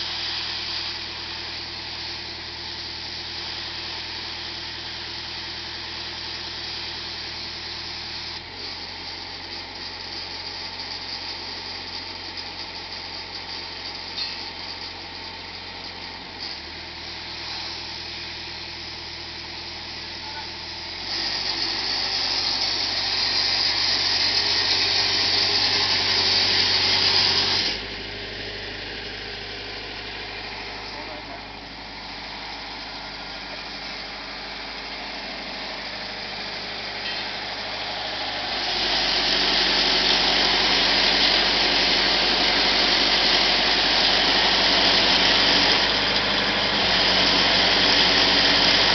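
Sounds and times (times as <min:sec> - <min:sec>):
pressure washer engine running: 0:00.0 - 0:48.9.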